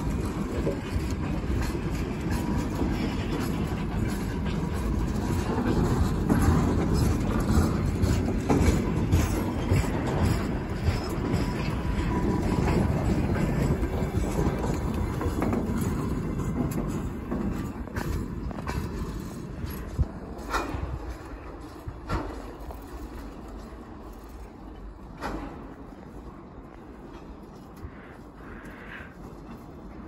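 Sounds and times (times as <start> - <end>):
wheels knocking over rail joints: 0.0 - 28.1
steel wheels rumbling on rail: 0.0 - 30.0.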